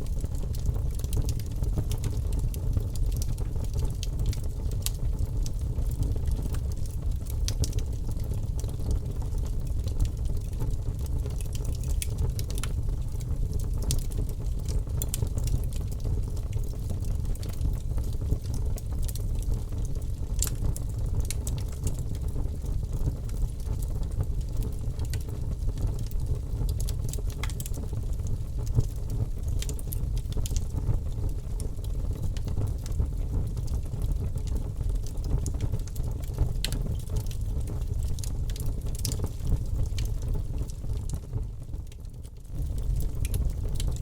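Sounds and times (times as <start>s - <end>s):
burning wood crackling and popping: 0.0s - 44.0s
low rumble of flames: 0.0s - 44.0s.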